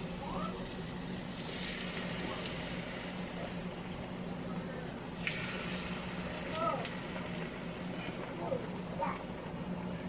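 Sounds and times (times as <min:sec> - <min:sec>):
eggs sizzling on hot plates: 0:00.0 - 0:09.7.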